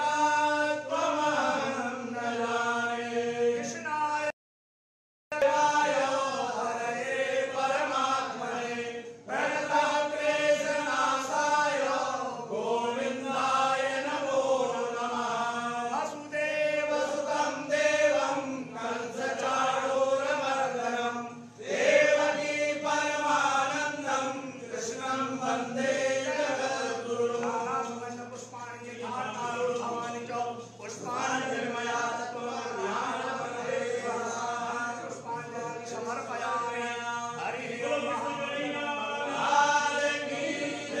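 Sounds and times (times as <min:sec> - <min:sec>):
man chanting: 0:00.0 - 0:04.4, 0:05.3 - 0:41.0.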